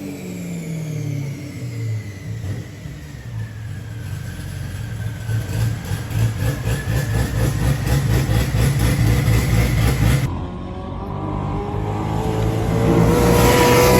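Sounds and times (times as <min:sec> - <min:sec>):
car engine running under load: 0:00.0 - 0:13.9.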